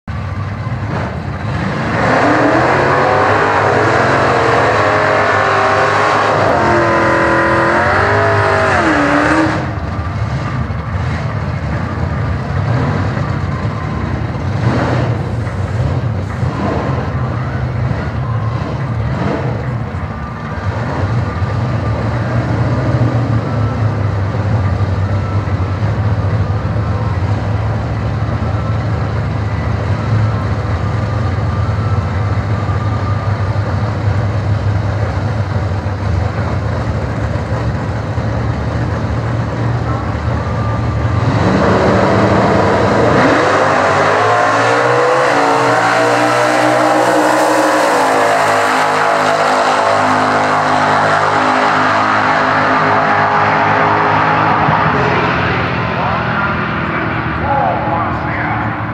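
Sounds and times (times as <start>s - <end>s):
car engines idling: 0.0s - 58.9s
car engines revving hard: 0.2s - 58.9s.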